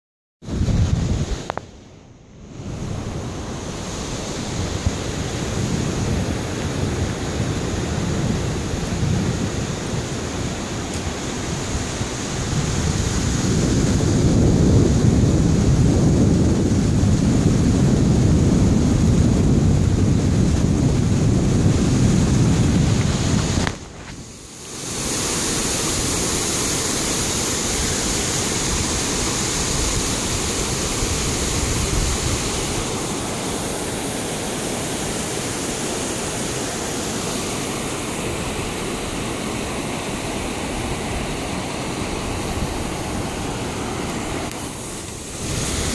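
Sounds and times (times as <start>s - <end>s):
wind buffeting microphone: 0.4s - 1.7s, 2.5s - 24.4s, 27.3s - 45.9s
churning river water: 2.6s - 45.9s.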